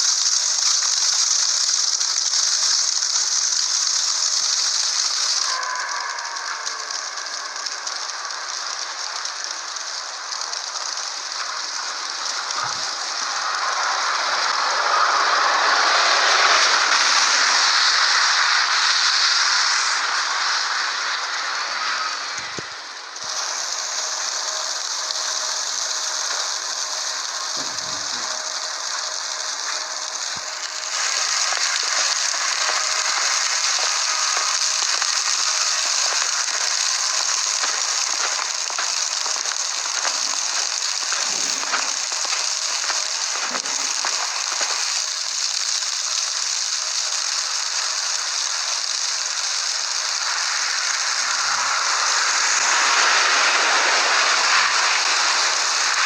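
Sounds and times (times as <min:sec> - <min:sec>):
snow or sleet hitting surfaces: 0:00.0 - 0:56.0.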